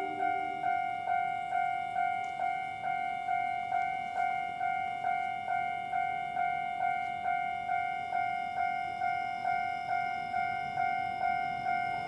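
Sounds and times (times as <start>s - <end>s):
railway crossing warning bell: 0.0s - 12.0s.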